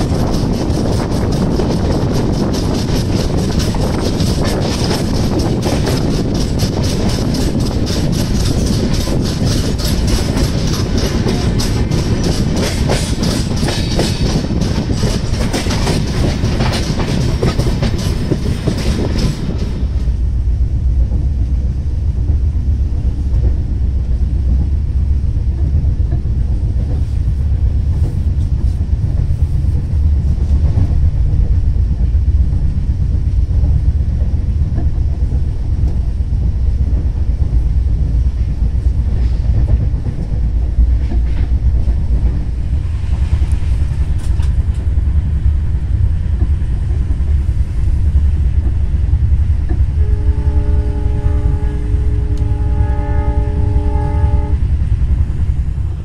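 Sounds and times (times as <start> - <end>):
train low rumble: 0.0 - 56.0
train wheels clattering: 0.0 - 56.0.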